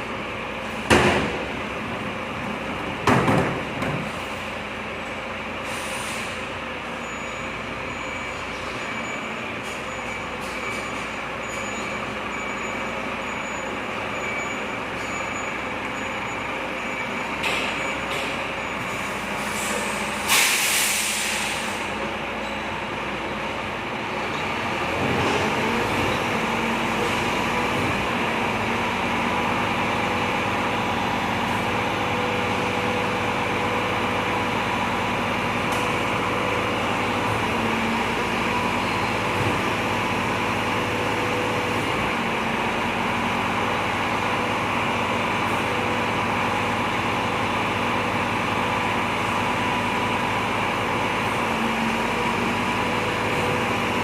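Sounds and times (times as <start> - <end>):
vehicle running hum with whine: 0.0 - 54.0.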